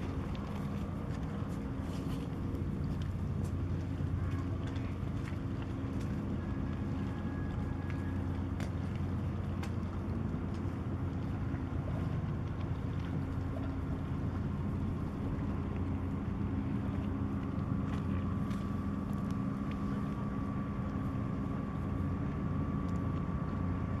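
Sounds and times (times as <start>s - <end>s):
thin steady whine: 0.0s - 24.0s.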